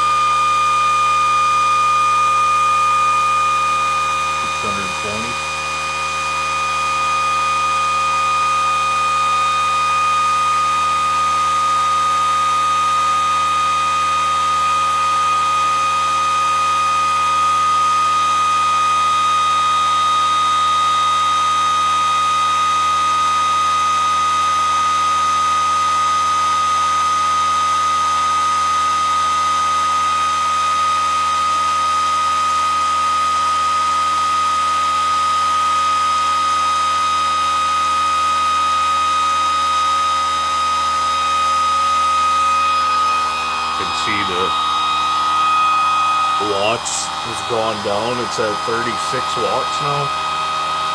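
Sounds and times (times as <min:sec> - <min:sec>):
high-pitched motor whine: 0:00.0 - 0:50.9.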